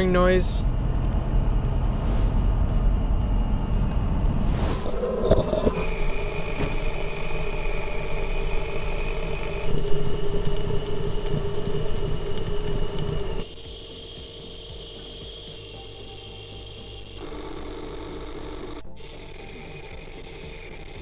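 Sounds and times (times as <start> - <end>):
wheel bearing hum and whine: 0.0 - 21.0.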